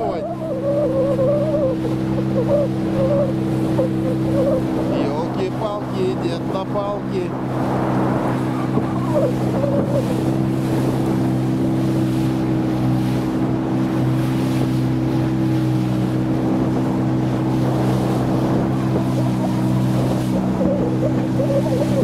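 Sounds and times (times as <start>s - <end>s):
outboard motor running: 0.0s - 22.0s
water rushing past hull: 0.0s - 22.0s.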